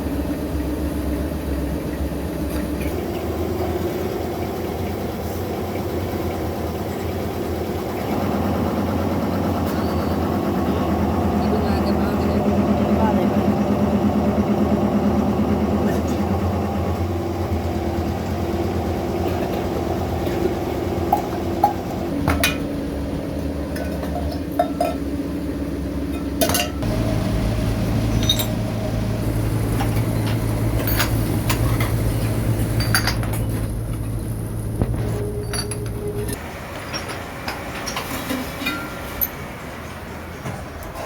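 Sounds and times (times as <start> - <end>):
workshop machine motor humming: 0.0 - 37.8.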